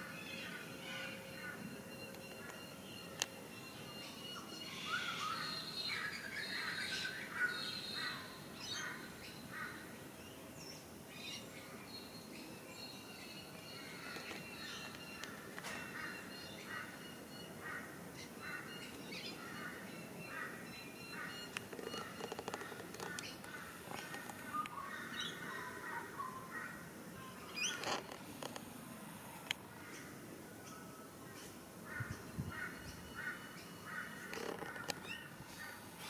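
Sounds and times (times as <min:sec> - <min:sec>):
birds chirping and calling: 0:00.0 - 0:09.9, 0:11.2 - 0:28.5, 0:29.8 - 0:36.0.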